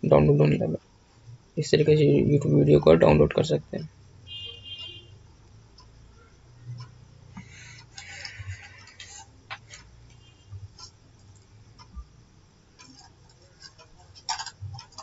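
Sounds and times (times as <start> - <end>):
low steady hum: 0.0 - 15.0
faint clicks and ticks: 2.6 - 15.0.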